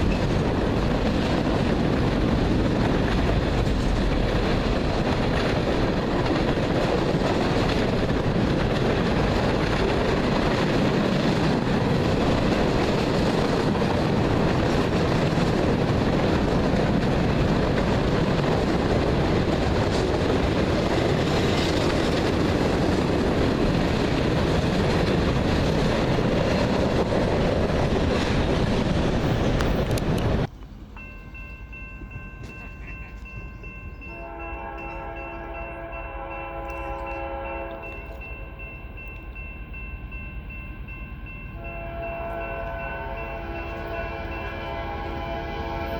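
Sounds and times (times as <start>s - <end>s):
freight train wheels on rail: 0.0s - 45.9s.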